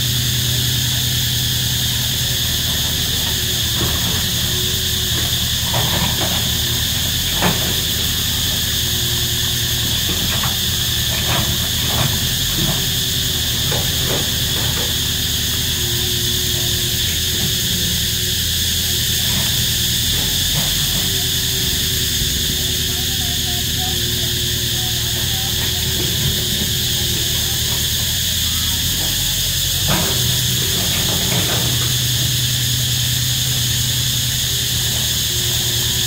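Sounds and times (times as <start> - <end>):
cicada chorus buzzing: 0.0 - 36.0
excavator diesel engine: 0.0 - 36.0.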